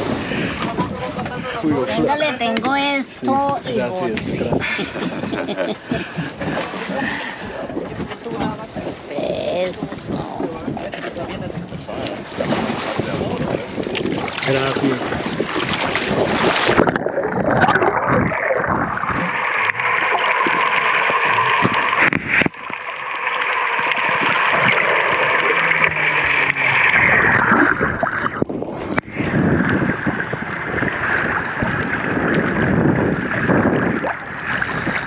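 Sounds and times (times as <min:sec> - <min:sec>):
water sloshing and gurgling: 0:00.0 - 0:35.0.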